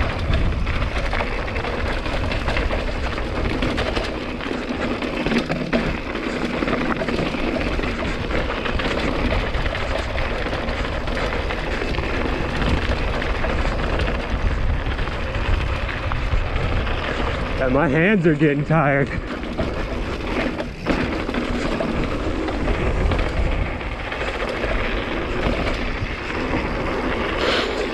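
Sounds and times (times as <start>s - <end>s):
bike rattling: 0.0s - 27.9s
bike tyres clattering on rocks: 0.0s - 27.9s
wind rumbling on microphone: 0.0s - 27.9s.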